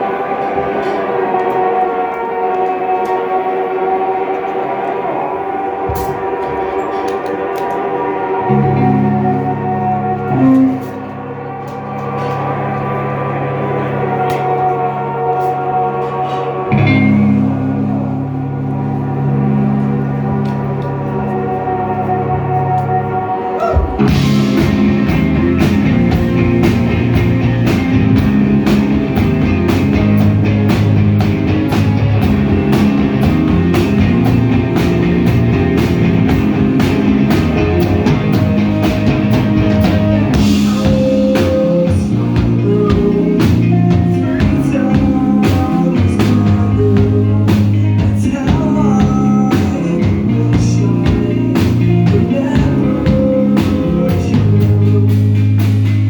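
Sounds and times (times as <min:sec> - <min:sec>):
rock band playing live: 0:05.9 - 0:56.0.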